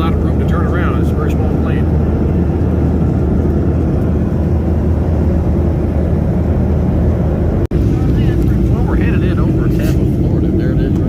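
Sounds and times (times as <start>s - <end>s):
airplane cabin engine and airflow noise: 0.0s - 11.0s.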